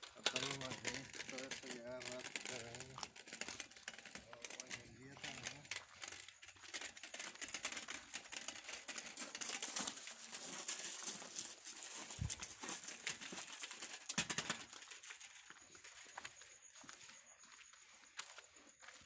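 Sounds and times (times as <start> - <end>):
footsteps on paving stones: 0.4 - 19.0.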